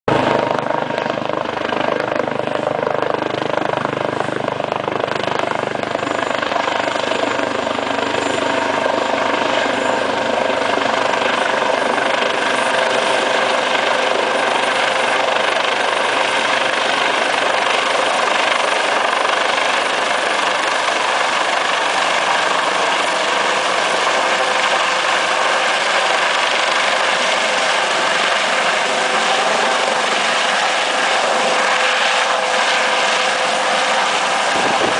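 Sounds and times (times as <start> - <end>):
helicopter rotor whining: 0.1 - 34.9.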